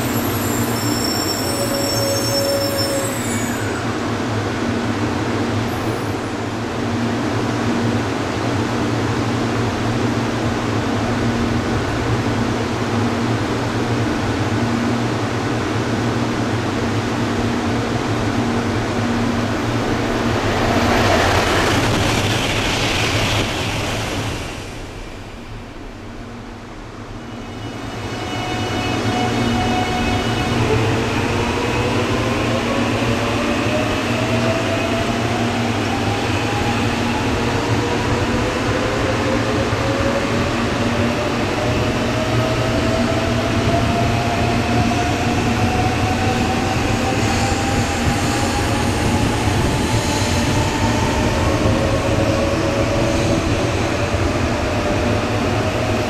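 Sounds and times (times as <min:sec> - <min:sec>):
train accelerating: 0:00.0 - 0:04.4, 0:11.5 - 0:56.0.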